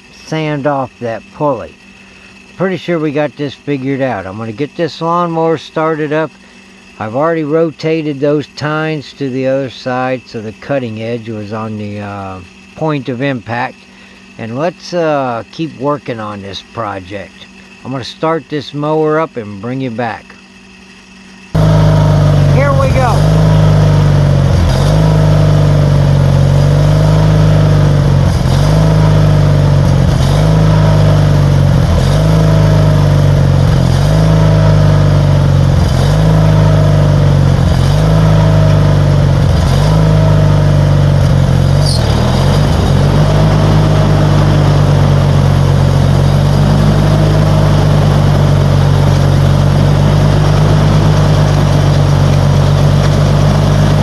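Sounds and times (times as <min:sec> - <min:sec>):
lawnmower engine running: 0:00.0 - 0:54.0.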